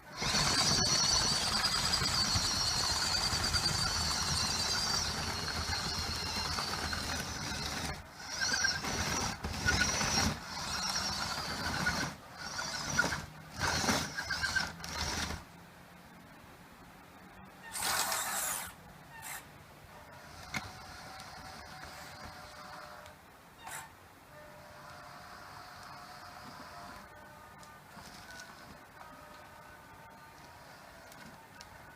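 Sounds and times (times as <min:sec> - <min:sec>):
small electric gear motors whining: 0:00.0 - 0:15.5, 0:17.6 - 0:31.9.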